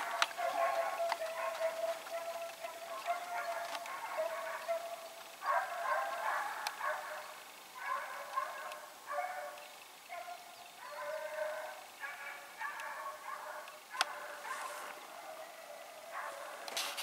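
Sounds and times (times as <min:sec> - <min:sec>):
hounds baying: 0:00.0 - 0:17.0.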